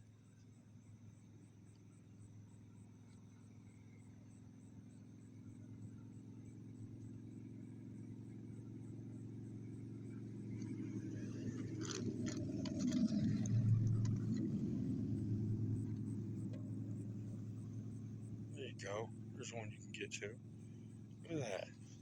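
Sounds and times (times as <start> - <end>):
vehicle engine hum: 0.0 - 22.0.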